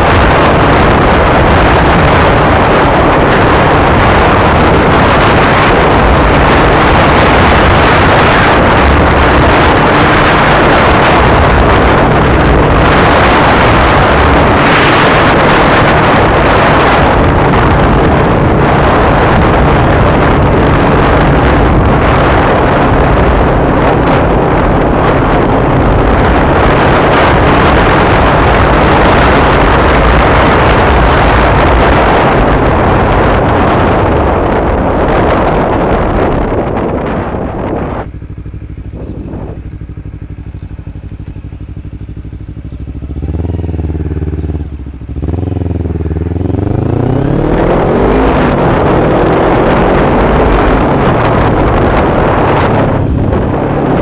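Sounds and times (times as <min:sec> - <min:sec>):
motorcycle engine running: 0:00.0 - 0:54.0
wind rushing on microphone: 0:00.0 - 0:54.0.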